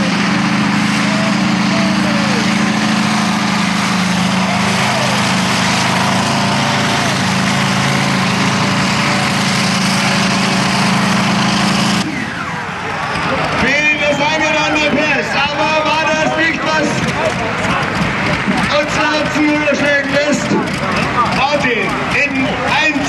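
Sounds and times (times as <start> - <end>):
tractor engine exhaust drone: 0.0 - 23.0.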